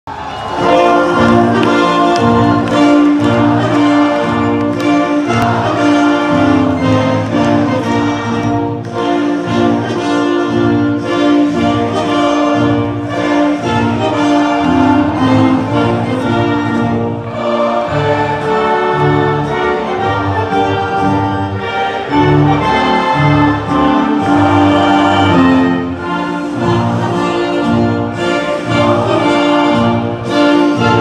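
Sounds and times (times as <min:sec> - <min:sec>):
orchestral anthem over loudspeakers: 0:00.1 - 0:31.0.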